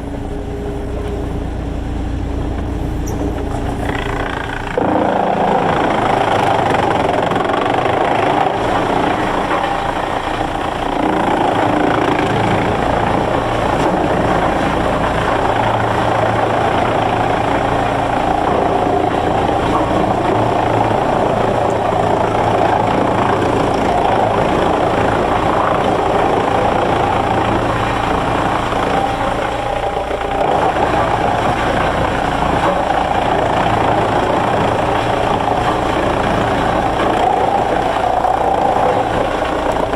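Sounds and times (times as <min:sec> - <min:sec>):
low engine hum: 0:00.0 - 0:39.9
rushing mechanical noise: 0:00.0 - 0:39.9.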